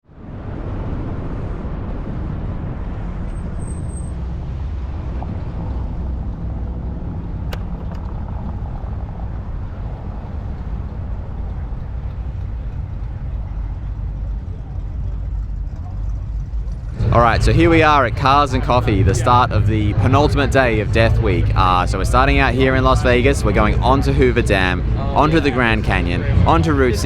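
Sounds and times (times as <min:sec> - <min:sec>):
car engine running: 0:03.3 - 0:27.0.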